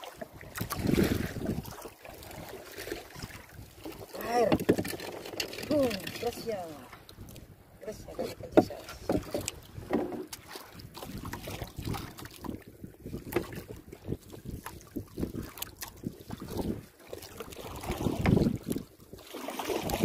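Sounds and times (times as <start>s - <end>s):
waves slapping wooden hull: 0.0s - 20.0s
wind buffeting microphone: 0.4s - 4.9s, 5.6s - 20.0s.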